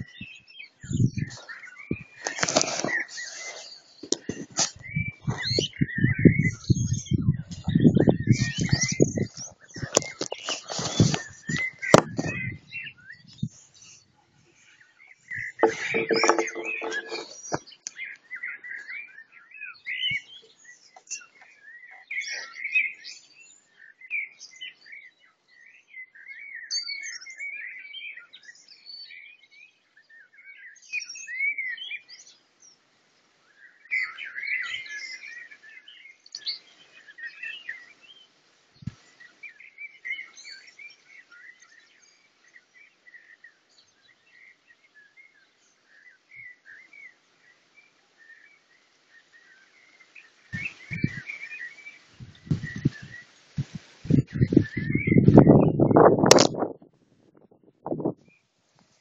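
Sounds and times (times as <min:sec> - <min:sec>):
birds chirping and warbling: 0:00.0 - 0:58.6.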